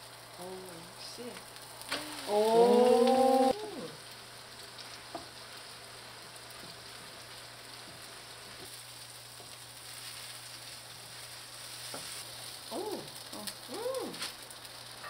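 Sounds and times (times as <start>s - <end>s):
pancakes sizzling in oil: 0.0s - 15.0s.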